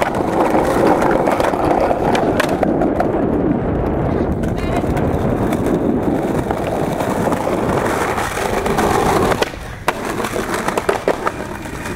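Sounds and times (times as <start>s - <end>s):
skateboard wheels rolling on stone: 0.0s - 11.9s.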